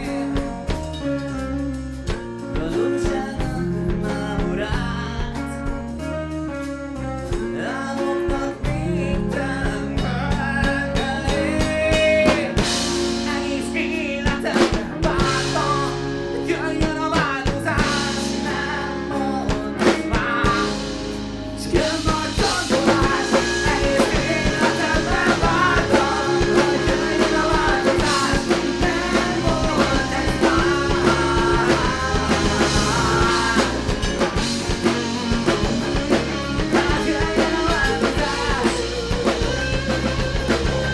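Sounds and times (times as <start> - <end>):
drums: 0.0 - 40.9
live rock band playing: 0.0 - 40.9
person singing: 7.3 - 40.9.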